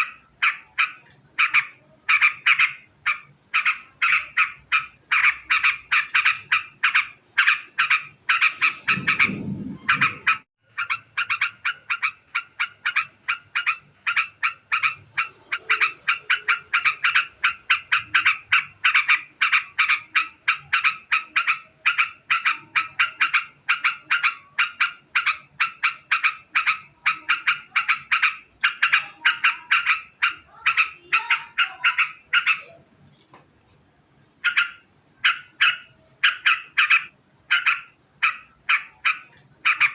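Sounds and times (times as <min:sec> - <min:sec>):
bulbul fast chattering call: 0:00.0 - 0:32.7.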